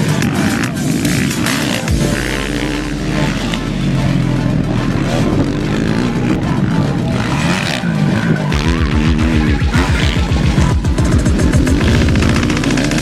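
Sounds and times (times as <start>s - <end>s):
motorcycle engines revving: 0.0s - 13.0s
music with a steady beat: 0.0s - 13.0s.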